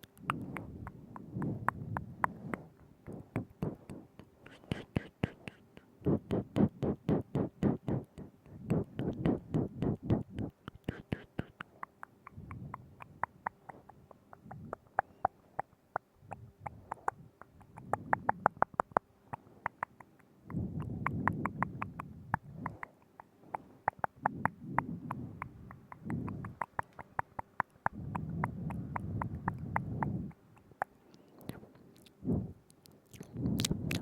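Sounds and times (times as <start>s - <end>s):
tongue and lip clicks: 0.0s - 34.0s.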